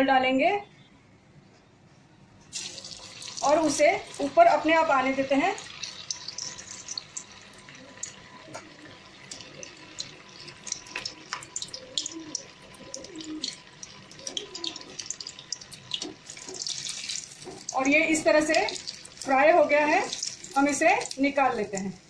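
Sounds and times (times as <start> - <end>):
oil sizzling: 2.5 - 22.0.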